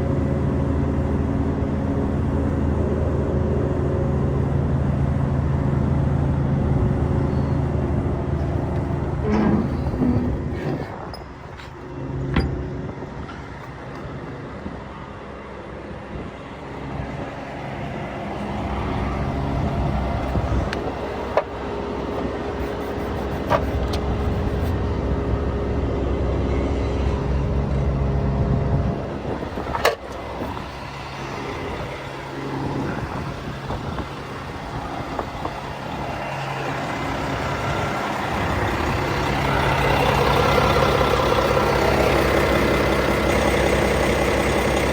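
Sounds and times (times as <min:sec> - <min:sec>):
diesel truck engine running: 0:00.0 - 0:44.9.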